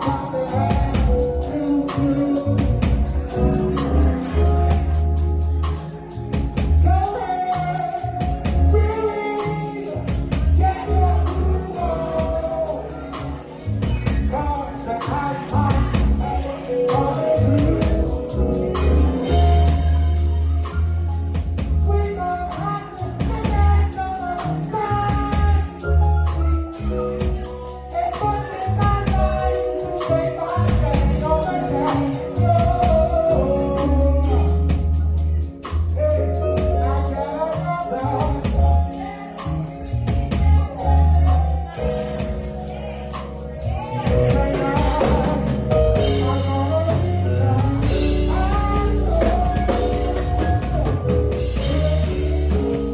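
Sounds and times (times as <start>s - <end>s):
band accompaniment: 0.0s - 52.9s
bass: 0.0s - 52.9s
drums: 0.0s - 52.9s
person singing gospel: 0.0s - 52.9s.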